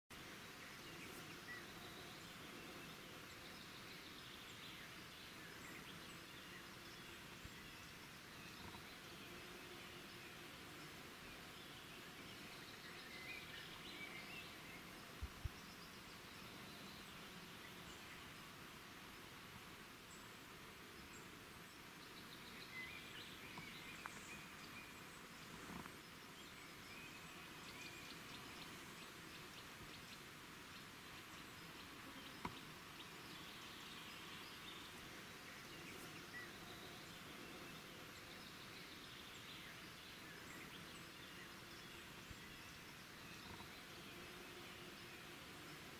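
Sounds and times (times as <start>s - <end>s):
faint outdoor ambience: 0.1s - 45.9s.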